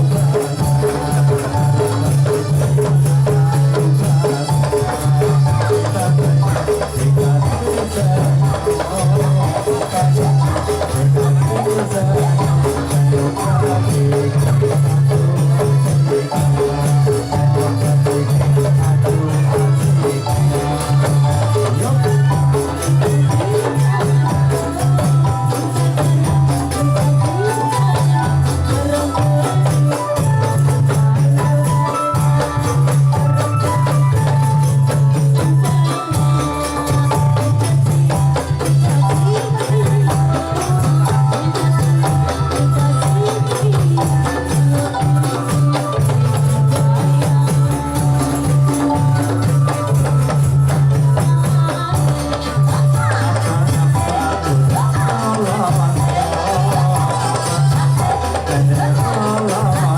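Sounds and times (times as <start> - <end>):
hand percussion: 0.0 - 59.9.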